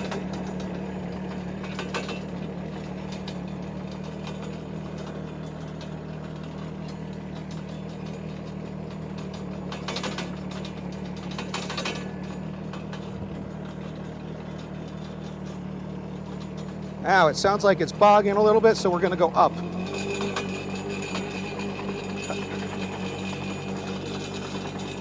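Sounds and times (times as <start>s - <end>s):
excavator engine hum: 0.0s - 25.0s
tracks clattering and ratcheting: 0.0s - 25.0s.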